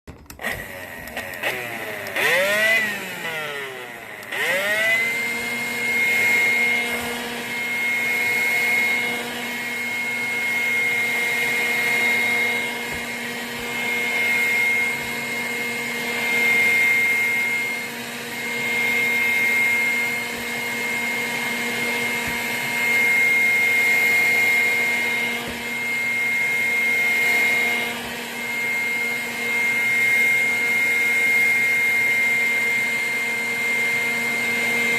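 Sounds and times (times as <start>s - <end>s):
vacuum cleaner motor whining: 0.1s - 34.9s.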